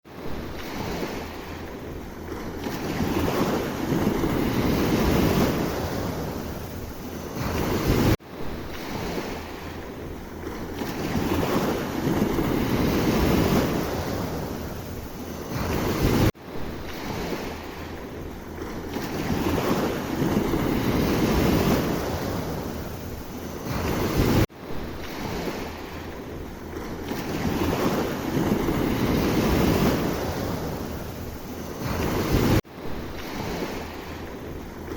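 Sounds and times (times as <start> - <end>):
sea waves washing on shore: 0.1 - 34.9
wind buffeting microphone: 0.1 - 34.9.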